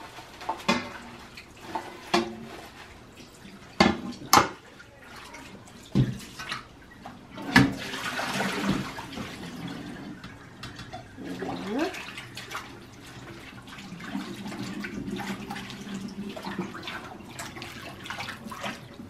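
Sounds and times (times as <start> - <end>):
water splashing: 0.4 - 10.0, 11.2 - 19.0.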